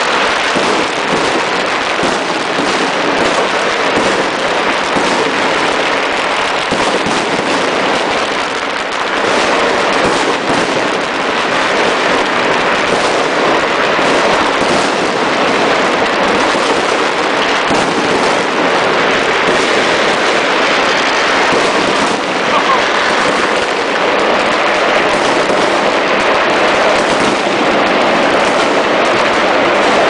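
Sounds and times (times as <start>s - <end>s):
fireworks banging and crackling: 0.0s - 30.0s.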